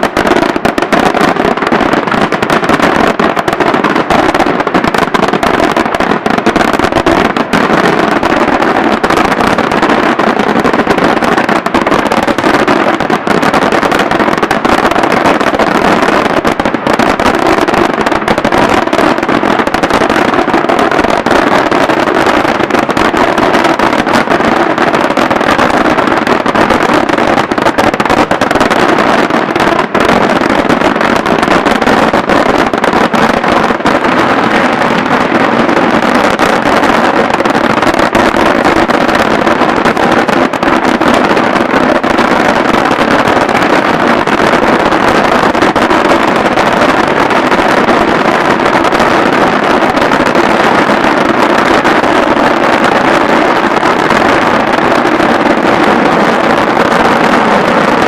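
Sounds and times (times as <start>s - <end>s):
fireworks barrage: 0.0s - 58.0s.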